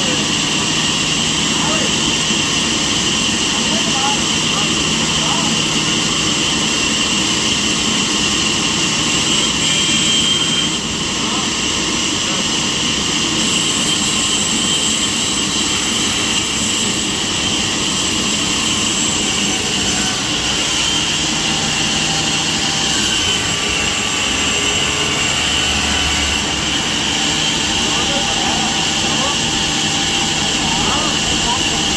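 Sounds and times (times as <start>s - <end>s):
circular saw blade running: 0.0s - 31.9s.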